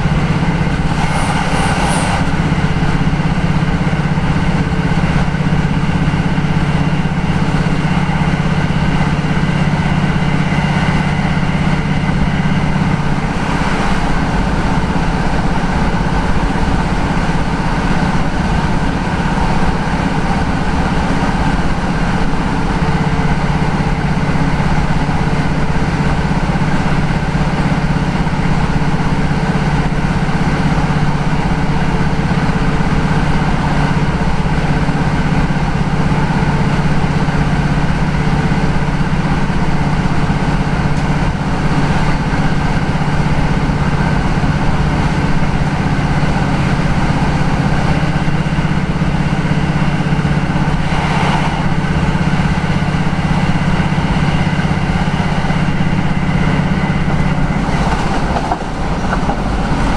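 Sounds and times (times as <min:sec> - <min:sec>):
train diesel engine drone: 0:00.0 - 0:59.9.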